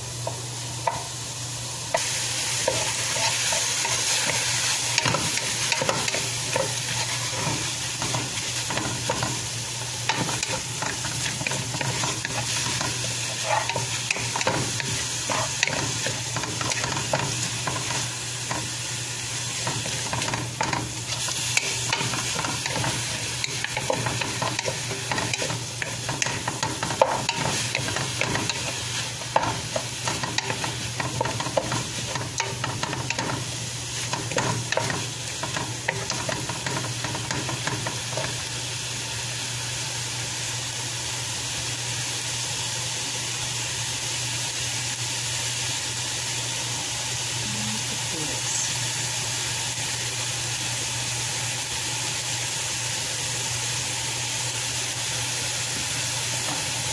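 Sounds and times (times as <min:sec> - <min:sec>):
food sizzling in a pot: 0:00.0 - 0:56.9.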